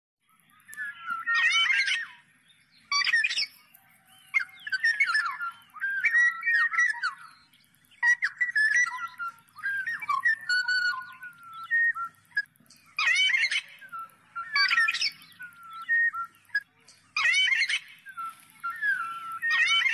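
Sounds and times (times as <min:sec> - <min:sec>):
oriole fluty whistled song: 0:00.2 - 0:19.9.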